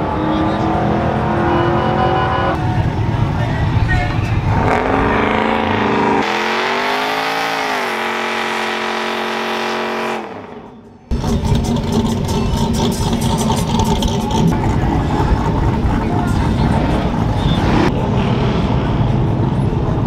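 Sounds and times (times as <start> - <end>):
tires spinning: 0.0 - 20.0
truck engines revving hard: 0.0 - 20.0.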